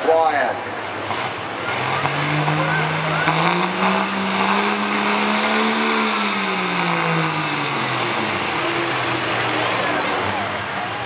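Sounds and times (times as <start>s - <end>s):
diesel truck engine under load: 0.6s - 11.0s.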